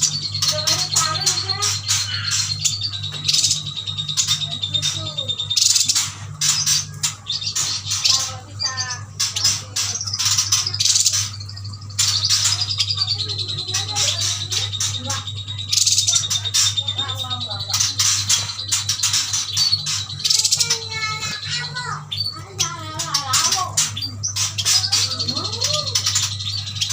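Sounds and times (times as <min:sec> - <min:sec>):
birds chirping and chattering: 0:00.0 - 0:26.9
low electrical hum: 0:00.0 - 0:26.9.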